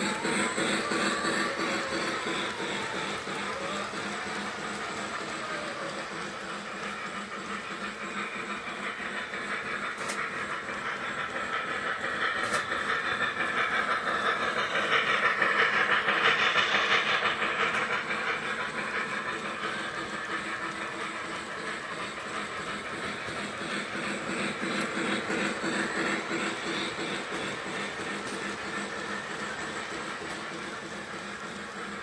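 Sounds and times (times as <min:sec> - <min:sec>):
toy train clattering on track: 0:00.0 - 0:32.0.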